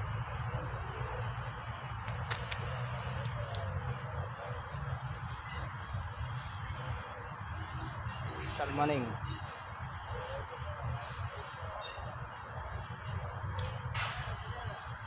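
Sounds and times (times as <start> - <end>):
faint insect chirring: 0.0 - 15.0.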